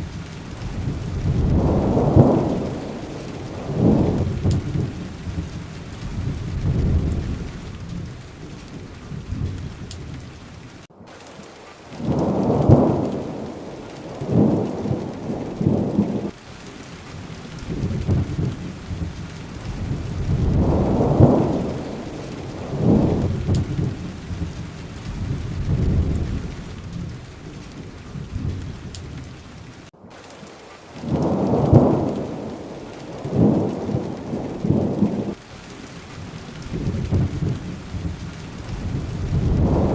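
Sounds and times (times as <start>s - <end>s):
low thunder rolls: 0.0s - 10.9s, 11.9s - 16.4s, 17.2s - 29.8s, 31.0s - 35.4s, 36.1s - 39.9s
steady rainfall: 0.0s - 39.9s.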